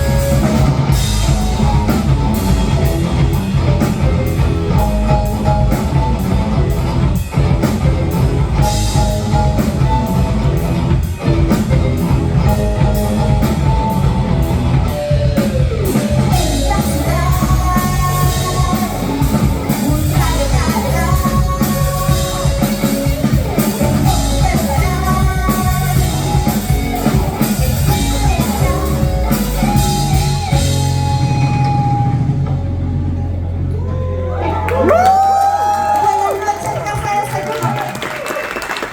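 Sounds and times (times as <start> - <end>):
melodic lead lines: 0.0 - 36.0
rock funk band playing: 0.0 - 38.9.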